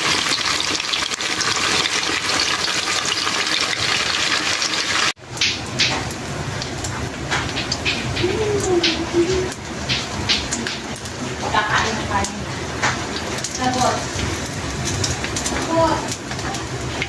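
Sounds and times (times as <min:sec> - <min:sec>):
deep-frying sizzle in hot oil: 0:00.0 - 0:17.0.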